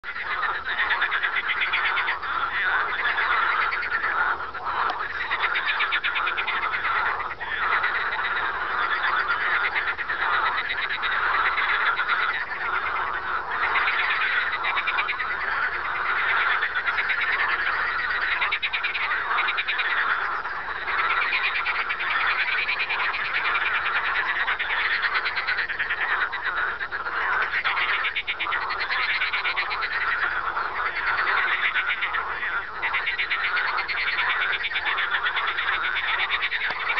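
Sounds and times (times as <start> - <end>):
chorus of frogs croaking: 0.0 - 36.9
frog laugh-like call: 0.1 - 36.9.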